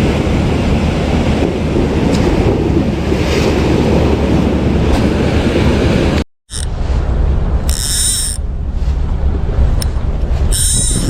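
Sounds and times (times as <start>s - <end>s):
sea waves washing in: 0.0s - 11.0s
wind buffeting the microphone: 0.0s - 11.0s.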